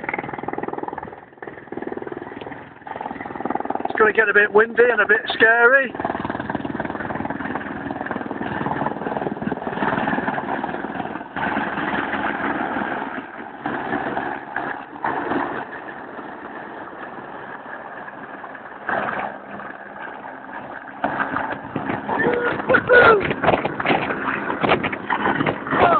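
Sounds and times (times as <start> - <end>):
helicopter engine and rotor: 0.0 - 25.9.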